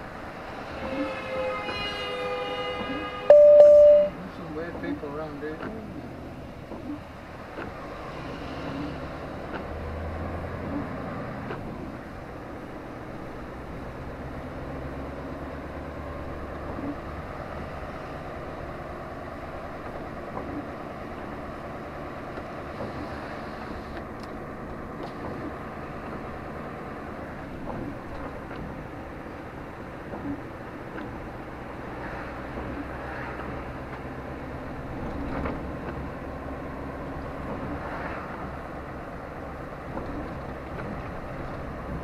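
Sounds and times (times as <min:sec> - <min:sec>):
heavy low vehicle rumble: 0:00.0 - 0:42.0
passing vehicles: 0:00.0 - 0:42.0.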